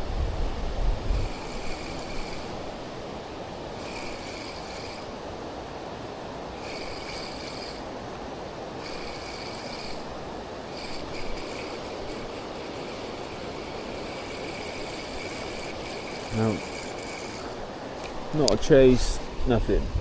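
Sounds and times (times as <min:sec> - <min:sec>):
water rushing over weir: 0:00.0 - 0:18.4
fishing reel gears whirring: 0:01.0 - 0:05.4, 0:06.4 - 0:18.2.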